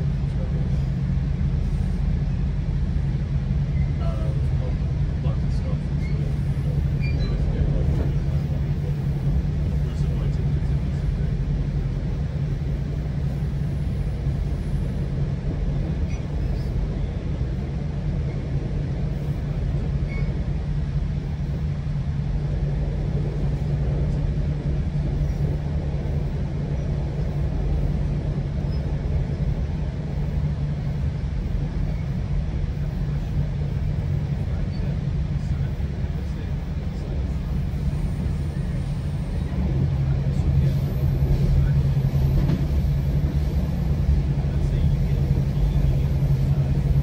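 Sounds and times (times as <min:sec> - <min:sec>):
train rumbling on rails: 0:00.0 - 0:47.0.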